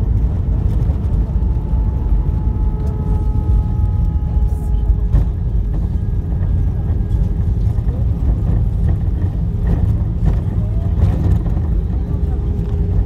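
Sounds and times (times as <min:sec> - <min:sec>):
airliner wheels and engines roaring: 0:00.0 - 0:13.0.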